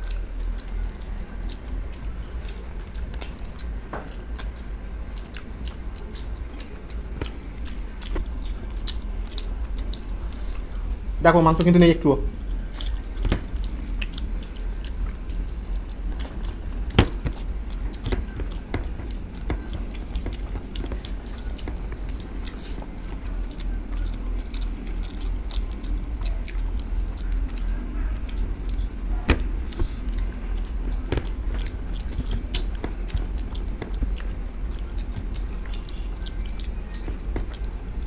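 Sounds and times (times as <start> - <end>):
low hum: 0.0 - 38.0
people chewing: 0.0 - 38.0.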